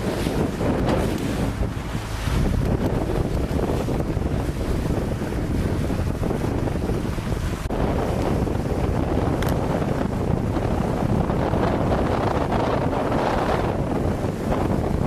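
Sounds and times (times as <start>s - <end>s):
choppy water splashing: 0.0s - 15.0s
strong wind buffeting microphone: 0.0s - 15.0s.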